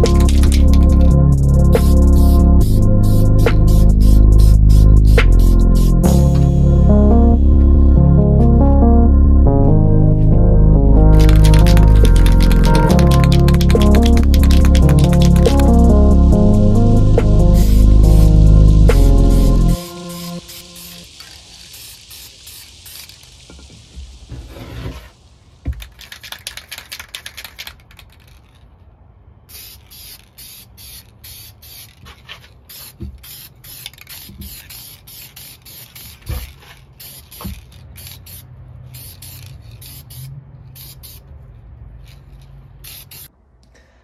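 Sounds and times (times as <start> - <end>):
spray paint can hissing: 0.0 - 6.7, 11.1 - 28.7, 29.5 - 43.3.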